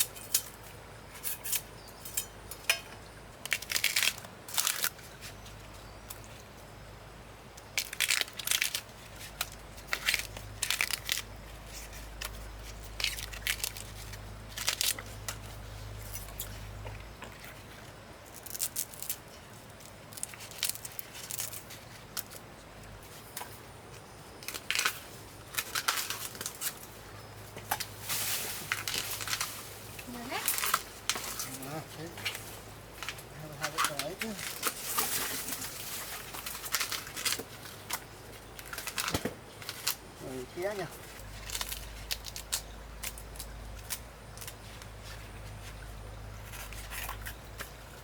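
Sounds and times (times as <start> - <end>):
bamboo husks tearing: 3.4 - 5.5, 7.6 - 22.4, 24.3 - 27.0, 27.6 - 48.0.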